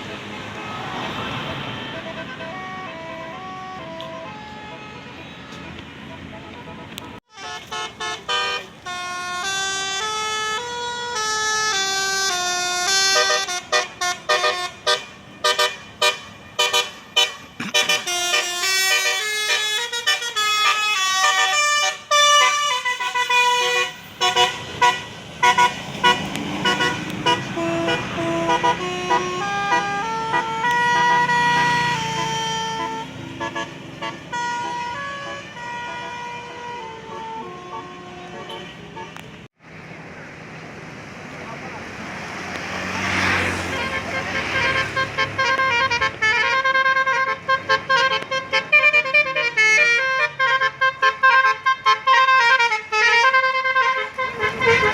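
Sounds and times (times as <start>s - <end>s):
multi-tone musical bus horn: 0.0s - 39.6s, 43.0s - 54.9s
bus engine running: 0.0s - 54.9s.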